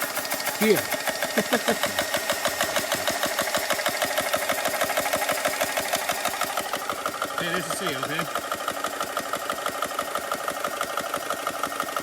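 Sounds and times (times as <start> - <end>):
air compressor pumping: 0.0 - 12.0.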